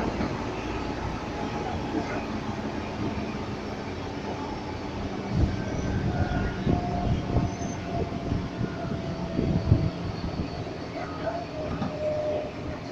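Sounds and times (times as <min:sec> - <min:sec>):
electric train running hum: 0:00.0 - 0:12.9.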